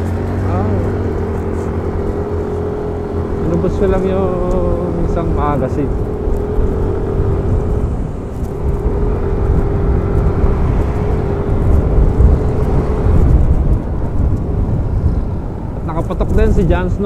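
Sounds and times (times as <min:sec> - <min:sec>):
scooter engine humming: 0:00.0 - 0:17.0
wind rumble on microphone: 0:00.0 - 0:17.0.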